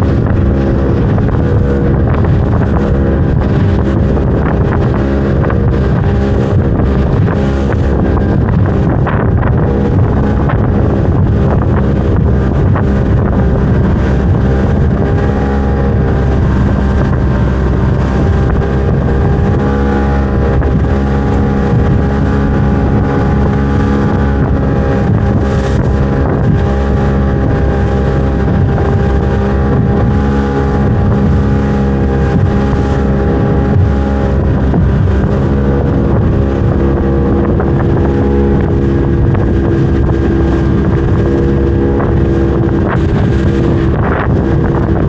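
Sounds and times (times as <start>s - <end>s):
outboard motor running: 0.0s - 45.0s
wind buffeting microphone: 0.0s - 45.0s.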